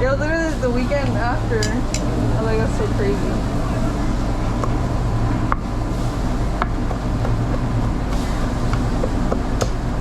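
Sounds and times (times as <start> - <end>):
low equipment hum: 0.0 - 10.0.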